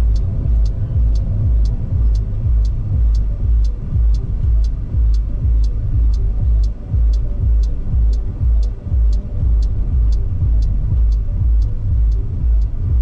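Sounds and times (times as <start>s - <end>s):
electronic music with beat: 0.0s - 13.0s
hi-hat tick: 0.0s - 13.0s
kick drum thump: 0.0s - 13.0s.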